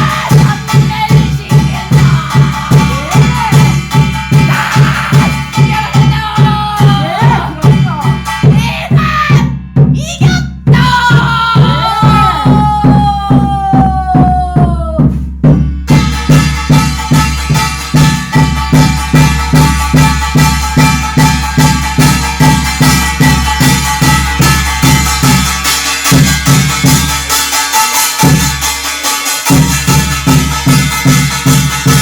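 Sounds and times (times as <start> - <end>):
jingling metal percussion: 0.0 - 13.4, 15.5 - 32.0
fast drum beat: 0.0 - 32.0.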